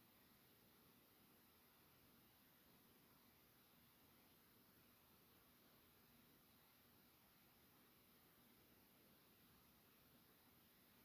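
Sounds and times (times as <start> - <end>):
faint recording hiss: 0.0 - 11.0.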